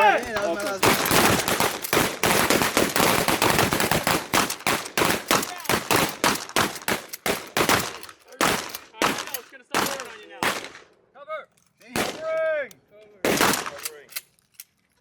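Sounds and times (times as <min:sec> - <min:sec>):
shotguns firing: 0:00.0 - 0:10.9, 0:11.9 - 0:12.4, 0:13.2 - 0:14.1.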